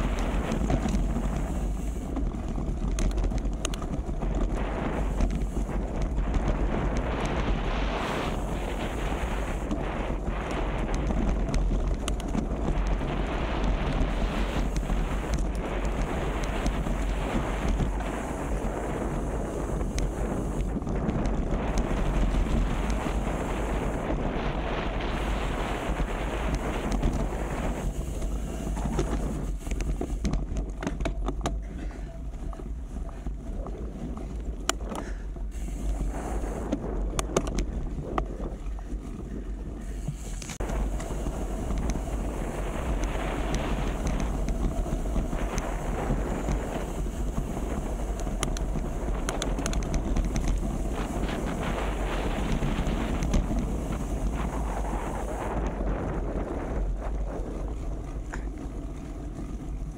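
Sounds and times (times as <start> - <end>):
small clicks and rattles: 0.0 - 59.9
wind buffeting microphone: 0.0 - 59.9.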